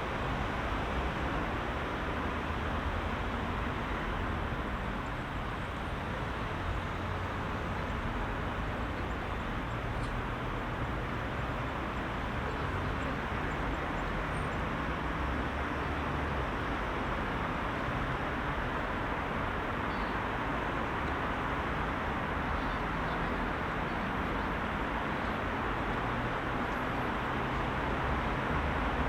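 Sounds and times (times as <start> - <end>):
car engines and tyre noise: 0.0 - 29.0.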